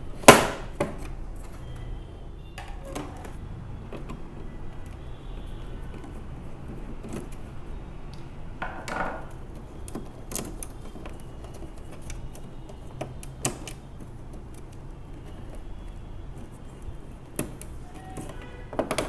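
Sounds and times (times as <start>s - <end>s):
small tools clicking and knocking: 2.6s - 19.0s.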